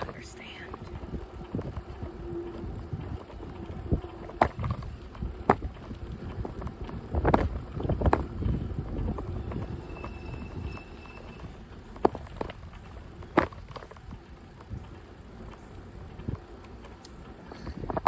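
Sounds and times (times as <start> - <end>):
bicycle tyres rumbling: 0.0 - 18.0
bike rattling over bumps: 0.0 - 18.0.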